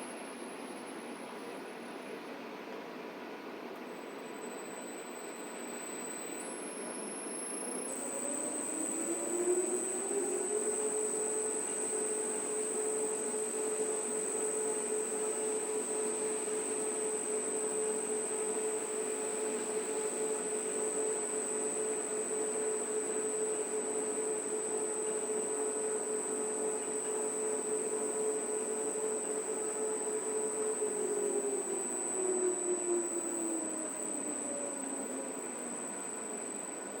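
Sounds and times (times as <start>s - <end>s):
thin high whine: 0.0s - 2.3s, 3.4s - 37.0s
washing machine motor whine: 0.0s - 37.0s.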